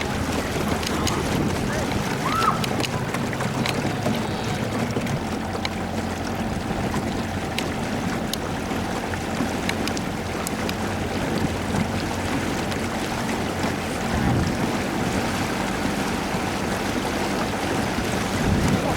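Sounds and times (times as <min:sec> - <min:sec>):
outboard motor running: 0:00.0 - 0:18.9
water rushing past boat: 0:00.0 - 0:18.9.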